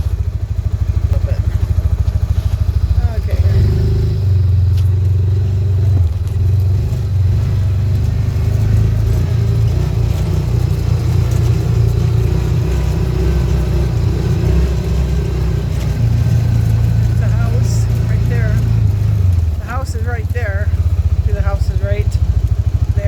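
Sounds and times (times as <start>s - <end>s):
vehicle engine running loudly: 0.0s - 23.0s.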